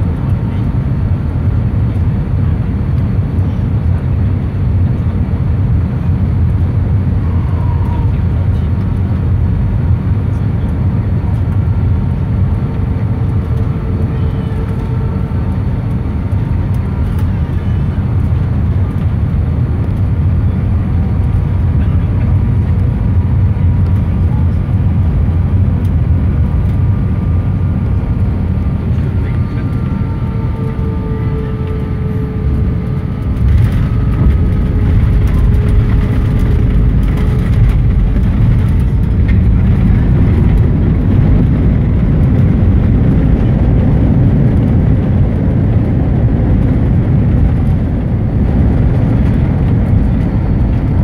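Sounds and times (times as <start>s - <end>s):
aircraft cabin engine rumble: 0.0s - 51.0s.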